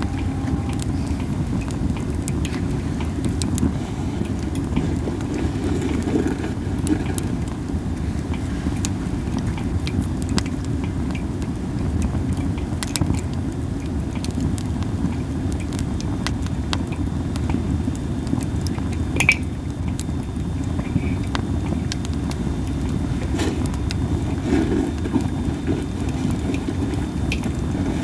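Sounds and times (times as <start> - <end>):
campfire crackling and popping: 0.0 - 28.0
low steady rumble: 0.0 - 28.0.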